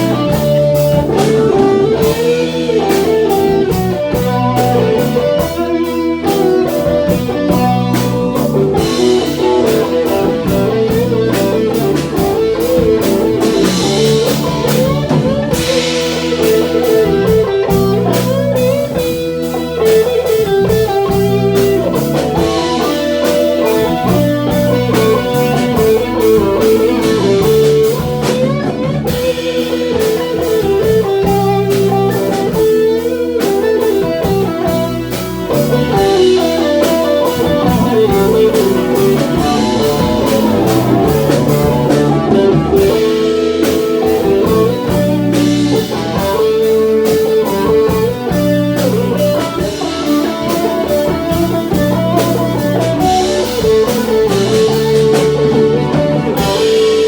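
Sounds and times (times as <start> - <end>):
drum kit beat: 0.0 - 57.0
electric guitar lead line: 0.0 - 57.0.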